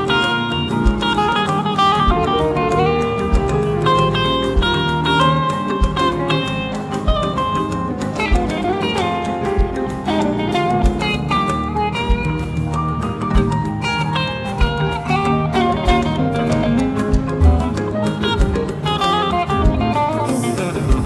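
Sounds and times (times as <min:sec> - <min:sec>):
bass line: 0:00.0 - 0:21.0
low drum beat: 0:00.0 - 0:21.0
plucked melodic lead: 0:00.0 - 0:21.0.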